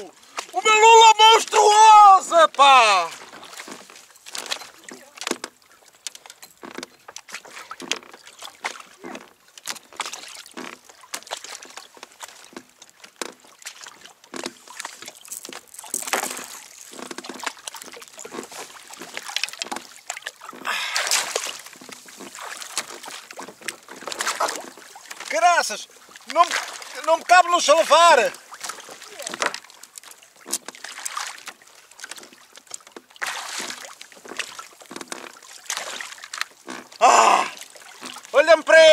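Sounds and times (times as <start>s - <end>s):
long splashes: 0.0s - 38.9s
water sloshing around kayak: 0.0s - 38.9s.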